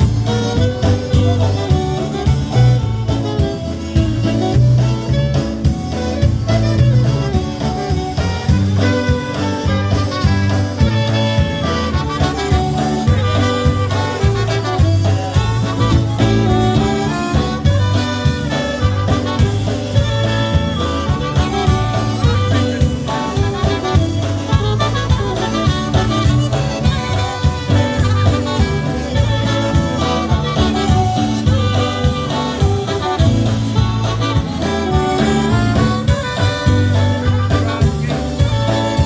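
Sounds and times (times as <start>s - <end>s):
alto saxophone: 0.0s - 39.0s
polka band playing: 0.0s - 39.0s.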